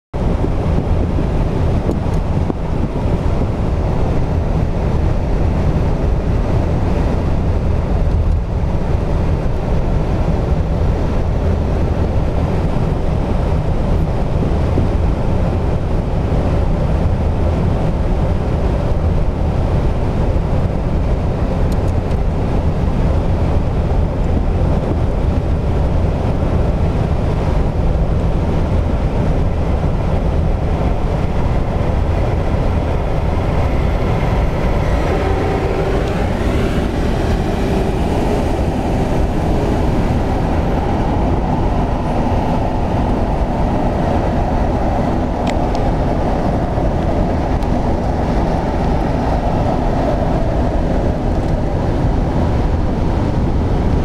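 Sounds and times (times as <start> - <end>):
vehicle road noise: 0.1 - 54.0
wind buffeting microphone: 0.1 - 54.0.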